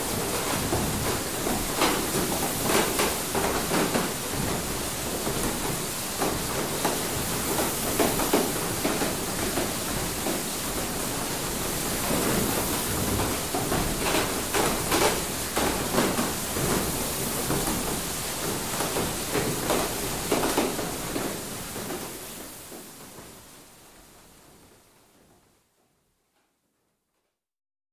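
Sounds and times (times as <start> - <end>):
running water rushing: 0.0 - 22.8.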